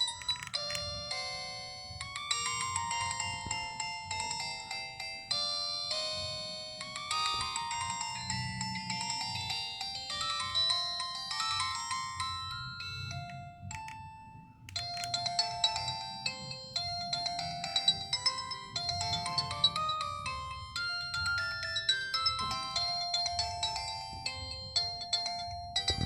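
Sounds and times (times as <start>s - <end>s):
polyphonic phone ringtone: 0.0s - 26.0s.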